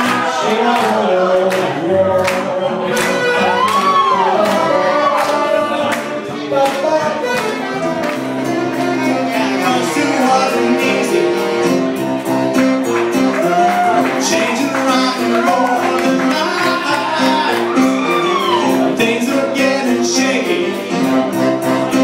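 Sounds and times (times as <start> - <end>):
electric keyboards: 0.0 - 22.0
saxophone melody: 2.6 - 22.0.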